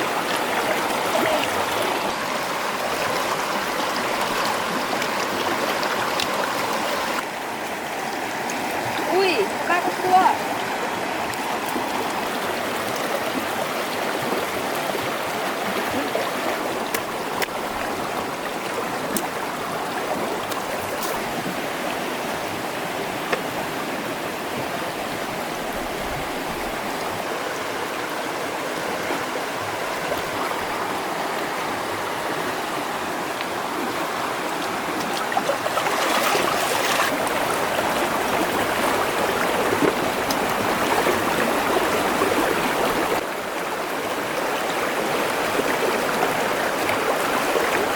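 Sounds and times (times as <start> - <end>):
stream water flowing: 0.0 - 47.9.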